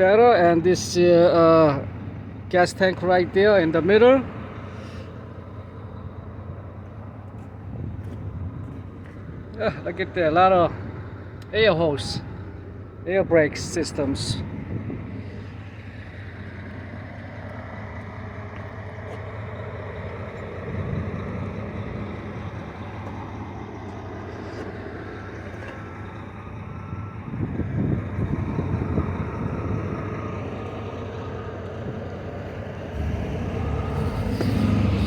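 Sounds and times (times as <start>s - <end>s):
vehicle engine rumbling: 0.0s - 35.0s.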